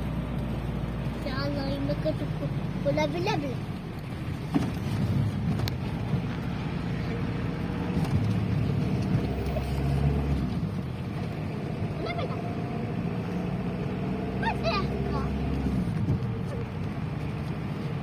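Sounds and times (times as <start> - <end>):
engine and road drone: 0.0 - 18.0.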